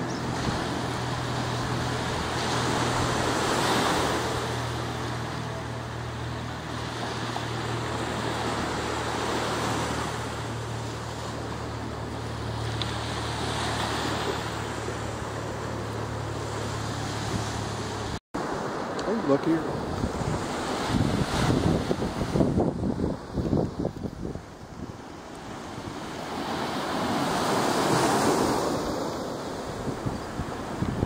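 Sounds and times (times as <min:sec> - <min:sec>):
surf breaking on beach: 0:00.0 - 0:31.0.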